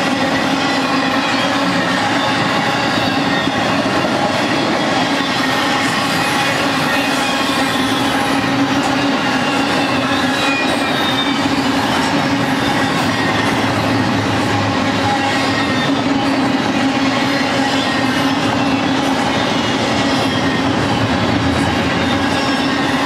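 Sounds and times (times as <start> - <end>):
high-pitched wheel squeal: 0.0 - 23.0
steel wheels rolling on rail: 0.0 - 23.0.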